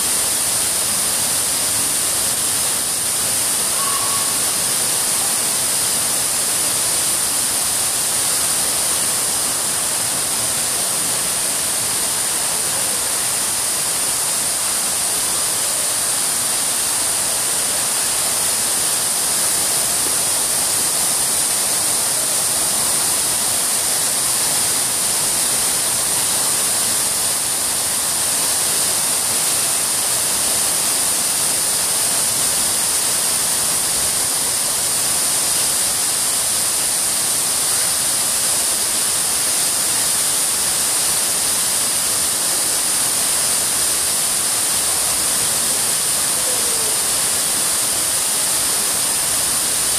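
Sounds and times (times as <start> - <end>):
fountain water splashing: 0.0 - 49.9.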